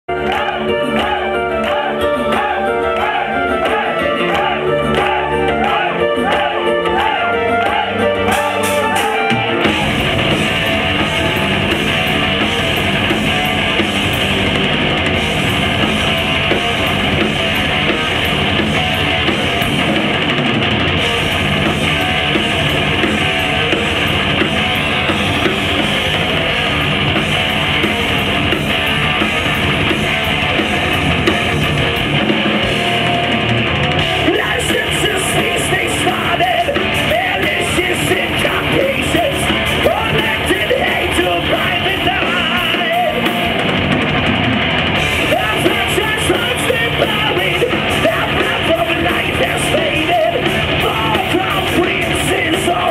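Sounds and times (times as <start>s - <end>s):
heavy metal band playing live: 0.1s - 52.9s.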